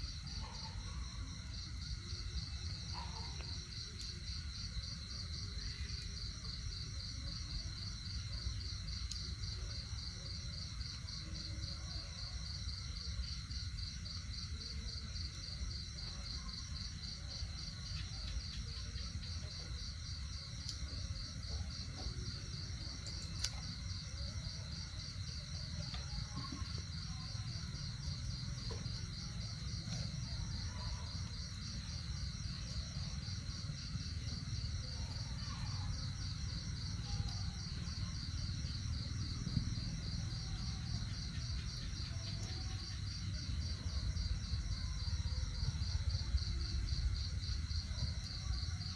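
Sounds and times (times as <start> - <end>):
insects trilling: 0.0 - 11.1, 11.8 - 48.9.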